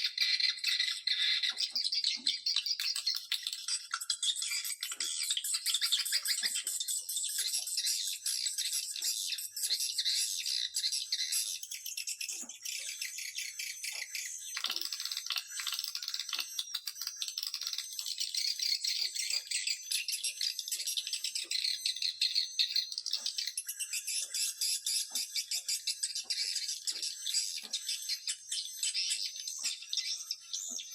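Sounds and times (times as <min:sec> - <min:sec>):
swiftlet chittering calls: 0:00.0 - 0:30.9.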